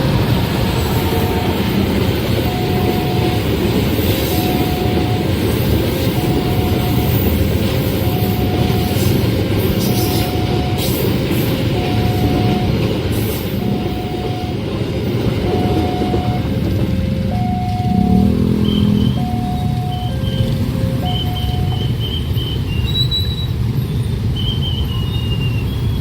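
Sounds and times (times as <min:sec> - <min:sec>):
level crossing warning tone: 0:00.0 - 0:22.9
train wheels rumbling on rails: 0:00.0 - 0:26.0.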